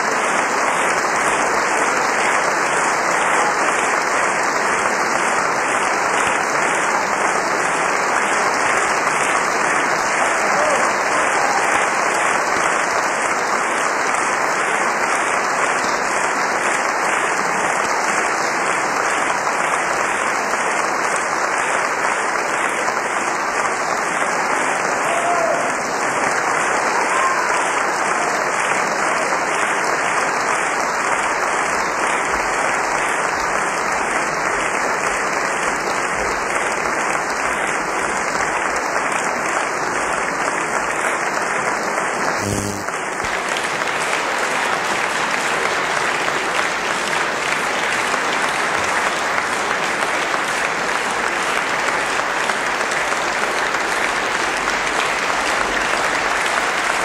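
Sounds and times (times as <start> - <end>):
audience applauding: 0.0 - 57.0.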